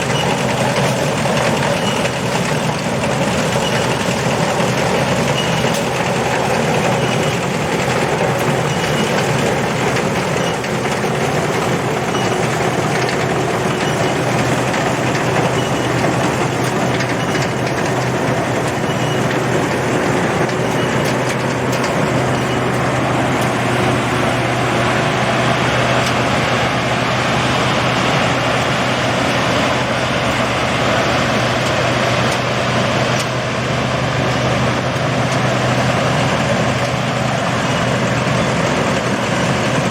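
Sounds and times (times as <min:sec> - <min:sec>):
combine harvester engine drone: 0:00.0 - 0:39.9
machine noise: 0:00.0 - 0:39.9.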